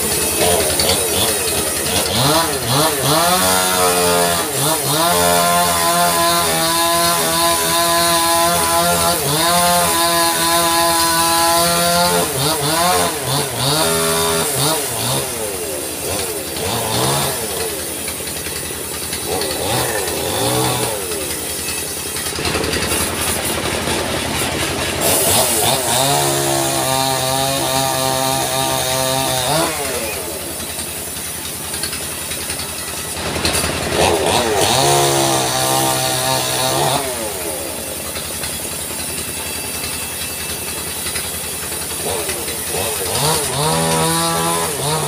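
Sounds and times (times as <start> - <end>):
sawmill cutting a log: 0.0 - 45.0.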